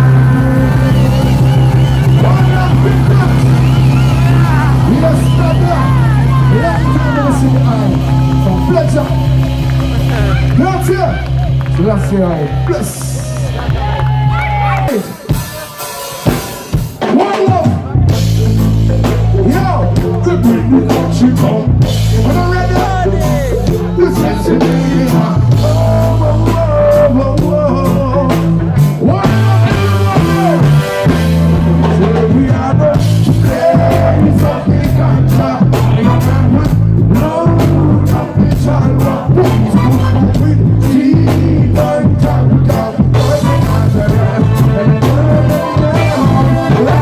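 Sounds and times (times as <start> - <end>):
person singing: 0.0 - 47.0
reggae band playing: 0.0 - 47.0.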